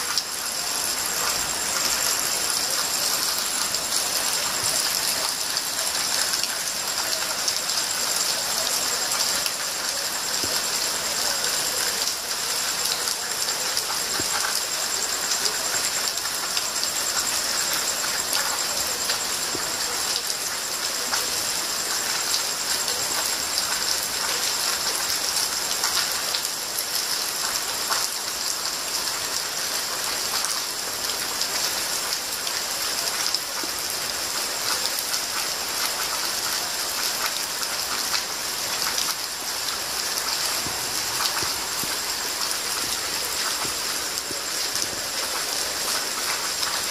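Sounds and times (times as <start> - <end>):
rain pattering: 0.0 - 46.9
sharp drips: 0.0 - 46.9.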